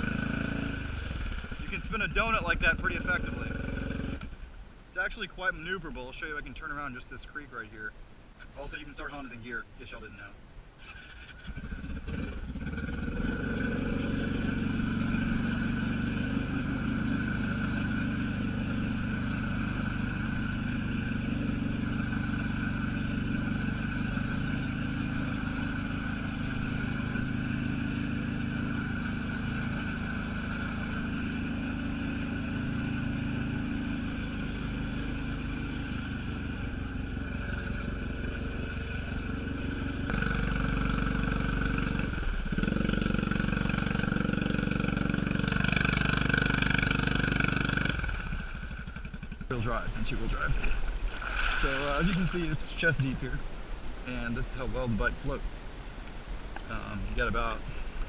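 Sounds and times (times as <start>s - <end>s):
atv engine running: 0.0s - 4.4s, 10.8s - 55.2s.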